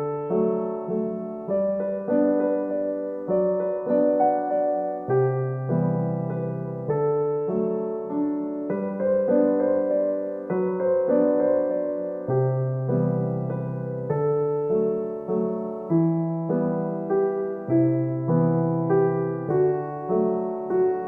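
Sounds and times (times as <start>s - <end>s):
soft piano chords: 0.0s - 21.0s.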